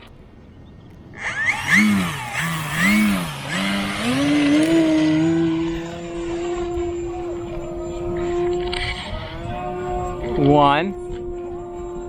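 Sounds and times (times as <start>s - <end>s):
model airplane motor and propeller: 0.0s - 12.0s.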